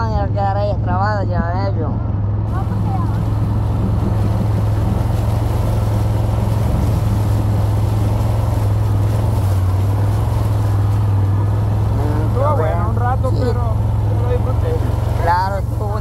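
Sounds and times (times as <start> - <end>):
quad bike engine droning: 0.0 - 16.0.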